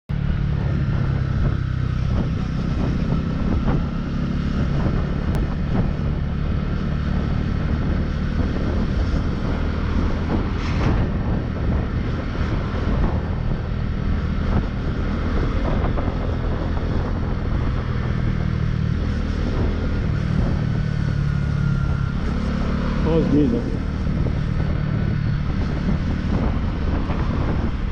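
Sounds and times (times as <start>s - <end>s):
motorcycle engine droning: 0.1s - 27.9s
road noise: 0.1s - 27.9s.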